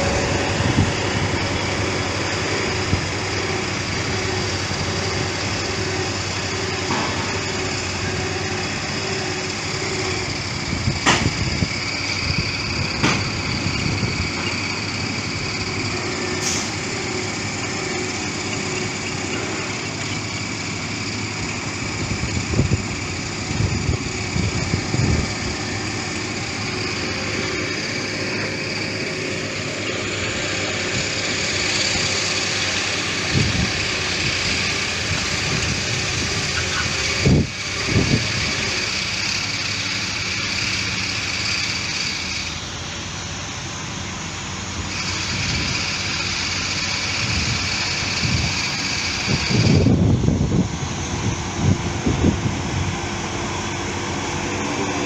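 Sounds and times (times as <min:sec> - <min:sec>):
heavy machinery engines running: 0:00.0 - 0:55.0.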